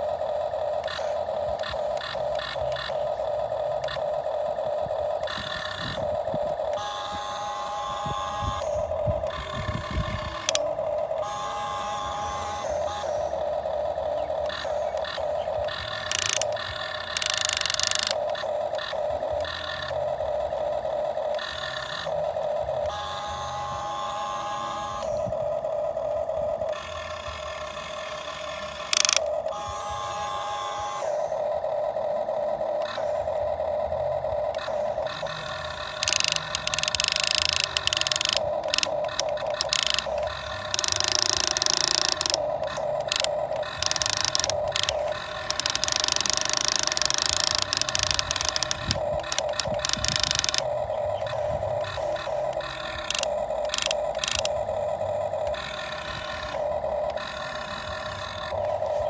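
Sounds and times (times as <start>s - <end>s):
small motors whining: 0.0s - 59.0s.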